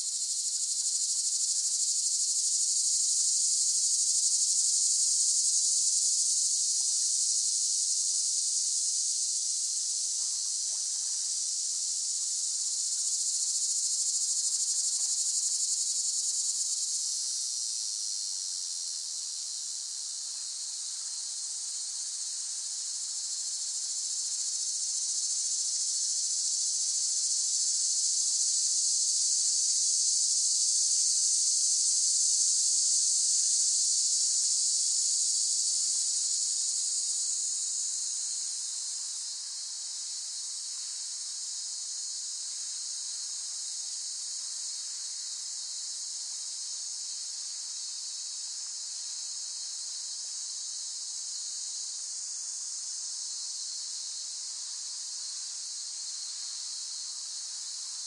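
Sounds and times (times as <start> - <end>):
cicadas singing: 0.0 - 19.6, 20.2 - 58.0.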